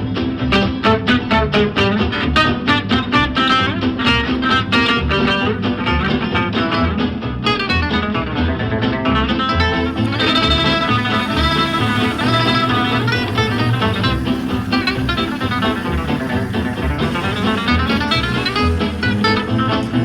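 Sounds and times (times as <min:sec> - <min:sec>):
plucked guitar: 0:00.0 - 0:20.0
steady bass line: 0:00.0 - 0:20.0.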